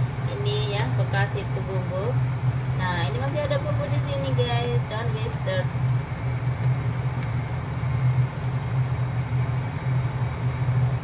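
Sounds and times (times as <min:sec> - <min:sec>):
appliance humming: 0:00.0 - 0:11.0.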